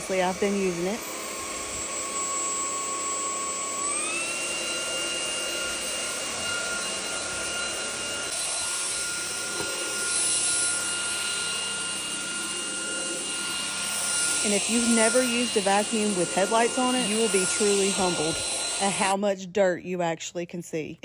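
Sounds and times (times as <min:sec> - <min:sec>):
vacuum motor whine: 0:00.0 - 0:19.2.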